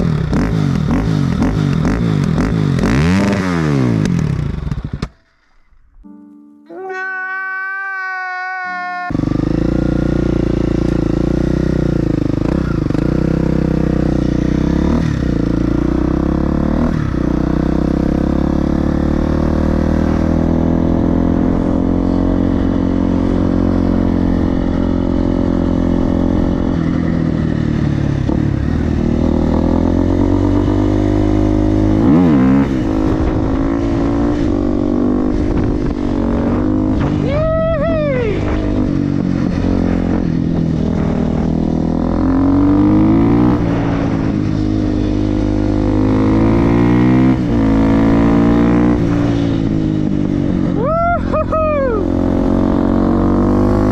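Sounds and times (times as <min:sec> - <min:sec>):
motorcycle engine running: 0:00.0 - 0:05.3, 0:09.1 - 0:53.9.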